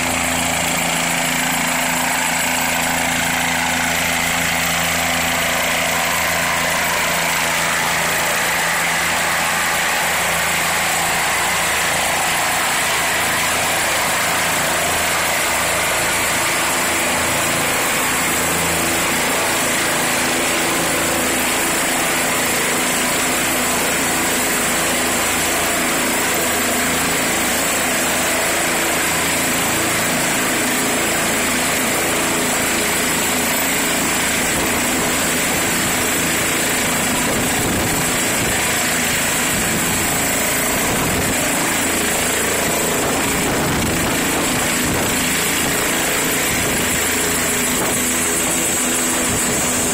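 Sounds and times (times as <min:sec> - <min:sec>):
helicopter engine and rotor: 0:00.0 - 0:49.9
high-pitched turbine whine: 0:00.0 - 0:49.9.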